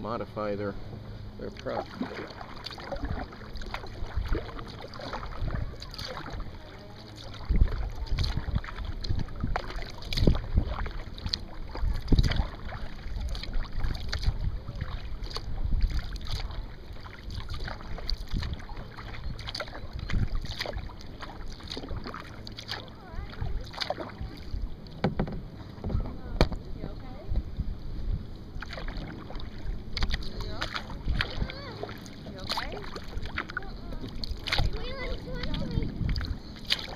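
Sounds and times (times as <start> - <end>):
paddle splashing in water: 0.9 - 36.9
wind buffeting microphone: 2.8 - 22.2, 23.0 - 36.9.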